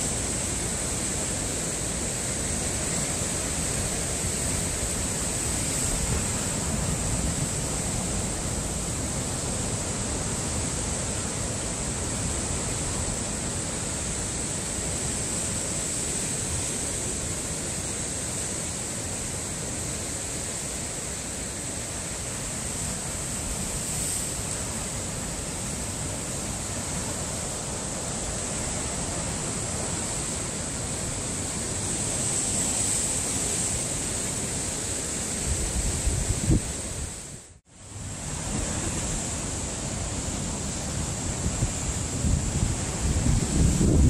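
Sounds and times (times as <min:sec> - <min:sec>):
surf crashing on rocks: 0:00.0 - 0:44.0.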